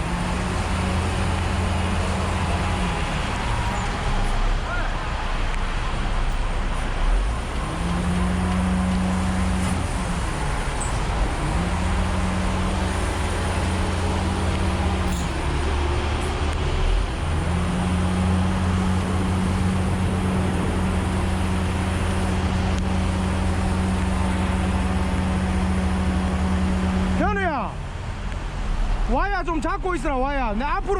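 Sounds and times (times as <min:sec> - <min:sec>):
diesel engine humming: 0:00.0 - 0:29.1.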